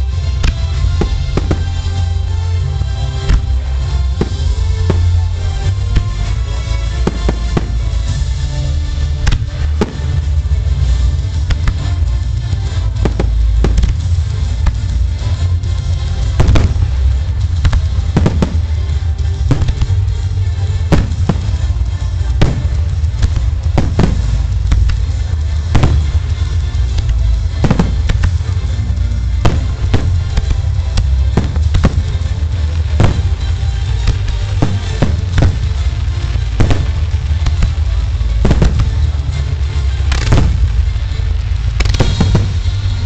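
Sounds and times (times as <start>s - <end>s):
fireworks bursting: 0.0s - 43.0s
low rumble: 0.0s - 43.0s.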